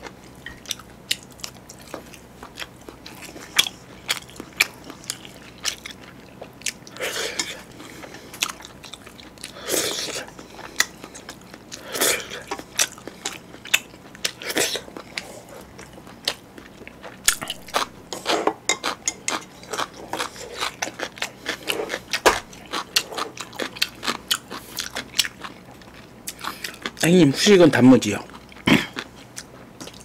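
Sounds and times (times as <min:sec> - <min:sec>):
man chewing noodles wetly: 0:00.0 - 0:27.1, 0:28.2 - 0:30.0.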